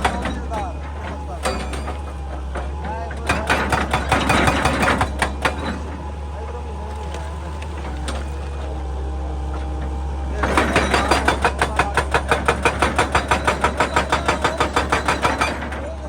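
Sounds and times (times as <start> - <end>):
hydraulic hammer pounding rock: 0.0 - 8.8, 9.4 - 16.0
excavator engine running: 0.0 - 16.0.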